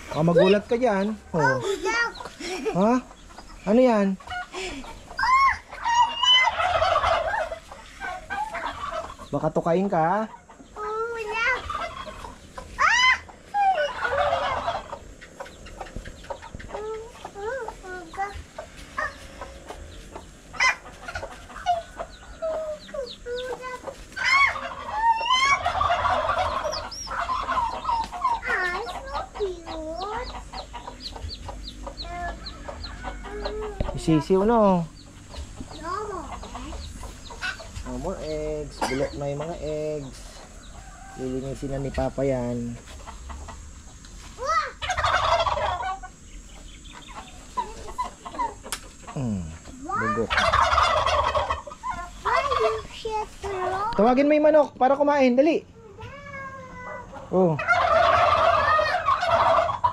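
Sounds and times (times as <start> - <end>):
soft bird calls: 0.0 - 54.6
turkey gobbling: 0.0 - 54.6, 56.7 - 59.9
chickens clucking: 0.0 - 59.9
chicks peeping: 0.0 - 59.9.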